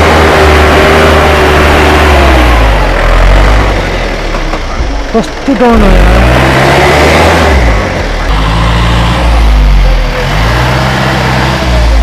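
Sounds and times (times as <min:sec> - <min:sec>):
truck engine revving hard: 0:00.0 - 0:04.4, 0:05.1 - 0:12.0.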